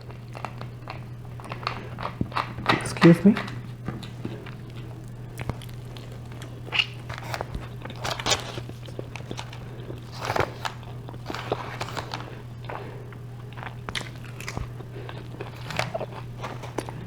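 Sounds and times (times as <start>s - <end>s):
person chewing and eating: 0.0s - 17.0s.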